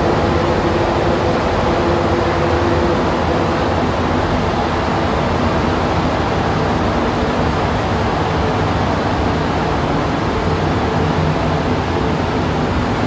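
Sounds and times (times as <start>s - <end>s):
faint humming tones: 0.0s - 13.0s
train rolling rumble: 0.0s - 13.0s.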